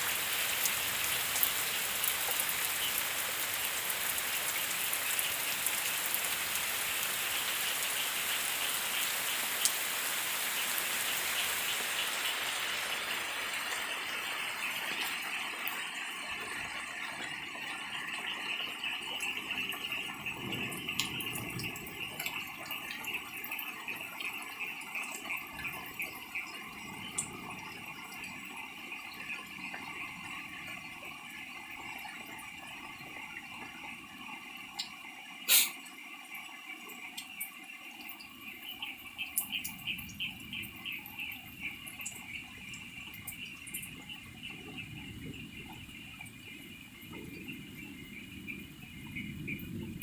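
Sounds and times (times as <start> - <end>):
rain falling: 0.0 - 50.0
scattered drips: 0.0 - 50.0.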